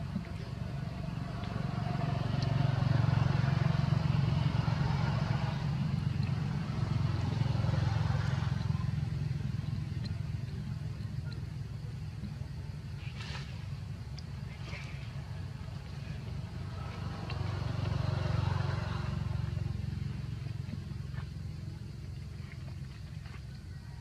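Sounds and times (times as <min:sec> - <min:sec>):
motor engine humming: 0:00.0 - 0:24.0.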